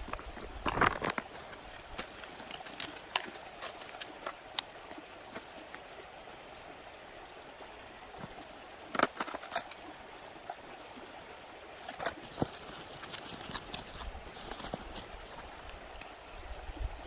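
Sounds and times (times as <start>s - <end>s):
mountain stream running: 0.0s - 17.0s.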